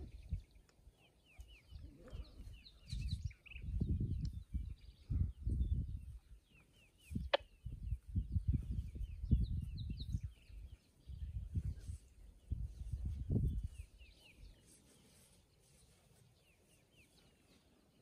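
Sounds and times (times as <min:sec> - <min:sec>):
low buffeting wind noise: 0:00.0 - 0:17.9
wild birds chirping: 0:00.0 - 0:18.0.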